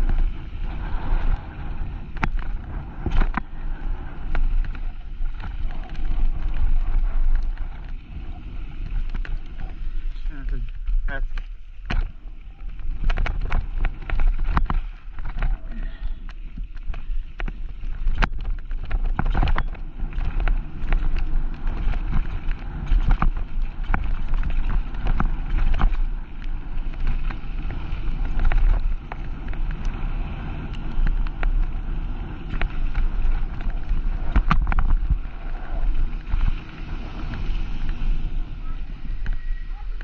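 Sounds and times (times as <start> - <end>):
bike clattering over bumps: 0.0 - 15.6, 16.2 - 38.3
wind buffeting microphone: 0.0 - 40.0.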